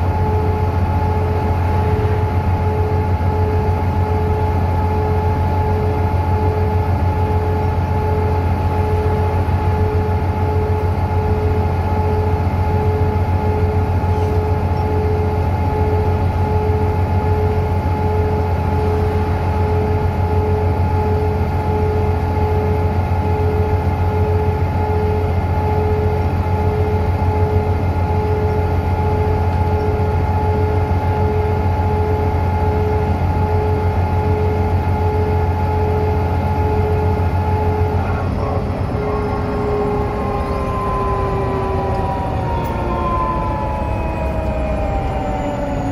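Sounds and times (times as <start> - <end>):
axle whine: 0.0 - 45.9
bus engine and road drone: 0.0 - 45.9.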